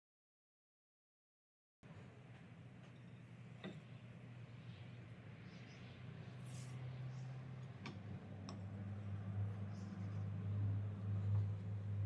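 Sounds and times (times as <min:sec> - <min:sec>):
steady low hum: 0:01.9 - 0:12.0.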